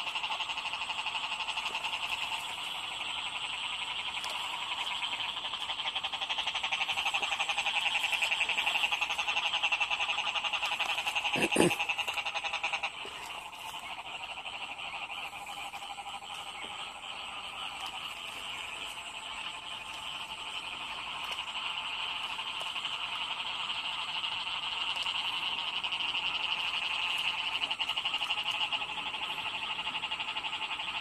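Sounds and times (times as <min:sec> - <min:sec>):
frogs calling in chorus: 0:00.0 - 0:31.0.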